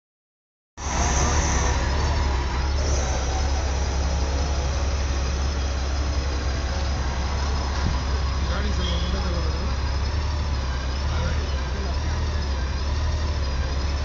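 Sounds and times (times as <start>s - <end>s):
street noise: 0.8s - 14.0s.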